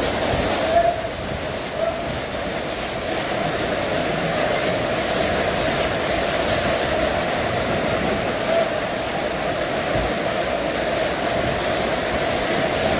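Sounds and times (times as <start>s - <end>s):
rushing floodwater roar: 0.0s - 12.9s.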